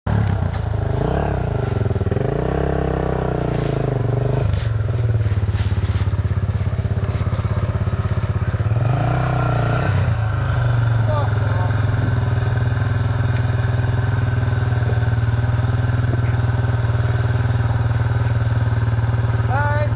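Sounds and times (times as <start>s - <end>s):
dirt bike engine revving: 0.1s - 19.9s.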